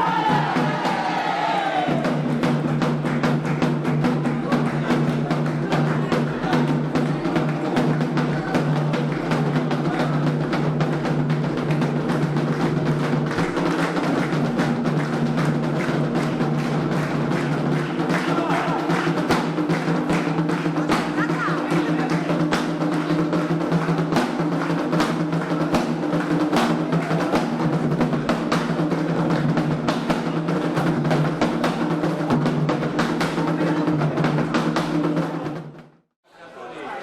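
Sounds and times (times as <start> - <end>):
hand drums playing fast rhythm: 0.0 - 36.0.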